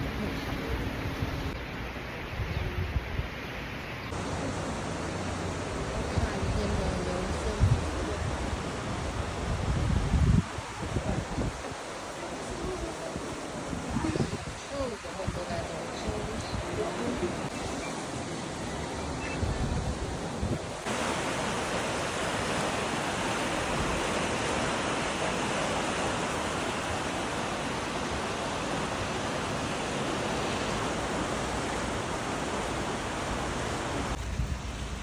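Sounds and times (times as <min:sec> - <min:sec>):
flowing water rushing: 0:00.0 - 0:02.1, 0:04.1 - 0:35.0.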